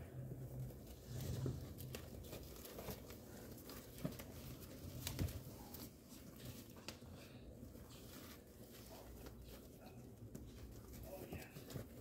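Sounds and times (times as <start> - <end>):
puppies scuffling on pads: 0.1 - 12.0.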